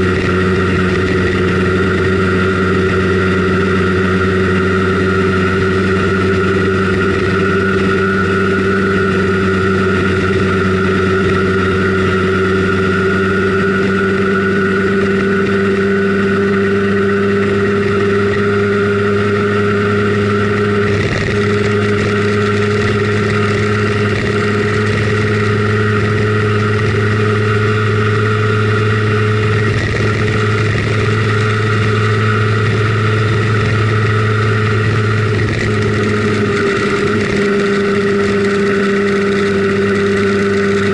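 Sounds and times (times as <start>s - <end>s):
two-stroke scooter engine running: 0.0s - 40.9s.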